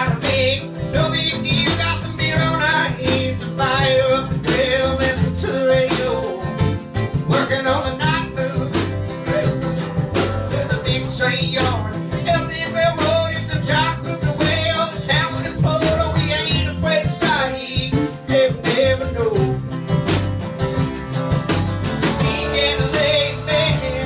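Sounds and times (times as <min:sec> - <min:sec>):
drum kit beat: 0:00.0 - 0:24.0
electric bass: 0:00.0 - 0:24.0
strummed acoustic guitars: 0:00.0 - 0:24.0.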